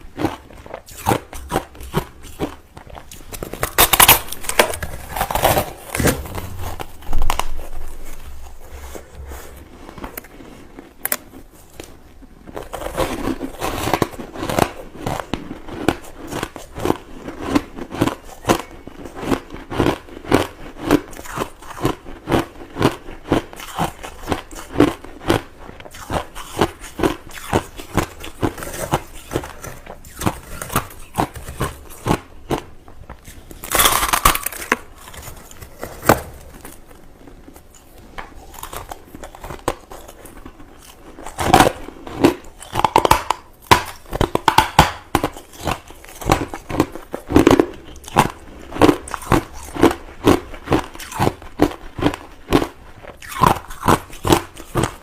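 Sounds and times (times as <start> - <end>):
chewing crushed ice: 0.0 - 55.0.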